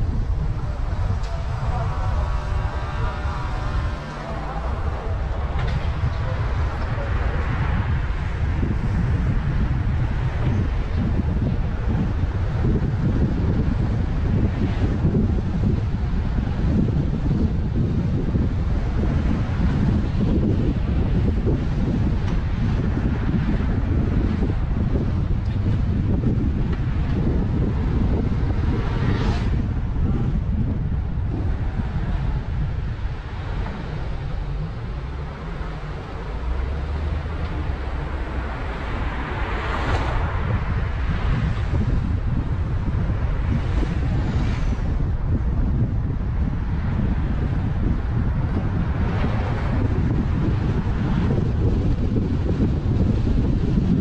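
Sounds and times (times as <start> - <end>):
car road noise rumble: 0.0 - 54.0
wind buffeting microphone: 0.0 - 54.0.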